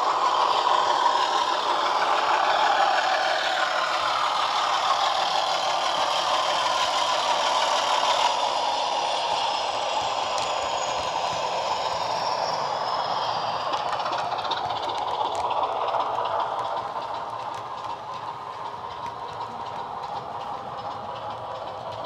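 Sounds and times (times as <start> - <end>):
diesel engine sound from speaker: 0.0 - 22.0
model train running on track: 0.0 - 22.0.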